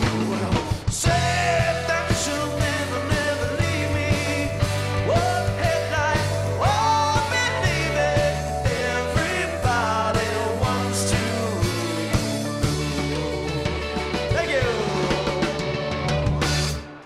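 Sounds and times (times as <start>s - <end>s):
bass guitar: 0.0s - 17.0s
drum kit hits: 0.0s - 17.0s
electric guitar melody: 0.0s - 17.0s.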